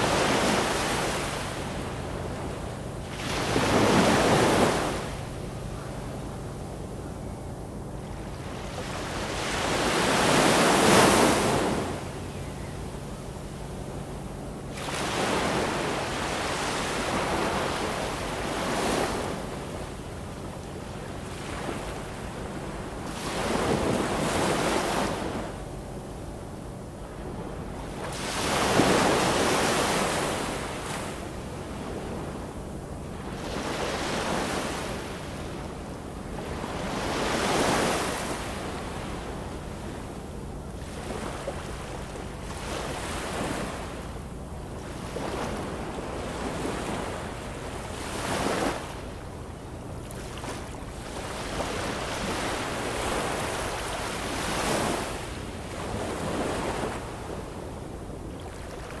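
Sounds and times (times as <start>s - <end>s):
ocean waves breaking: 0.0s - 6.4s, 8.0s - 12.2s, 14.7s - 25.6s, 27.0s - 59.0s.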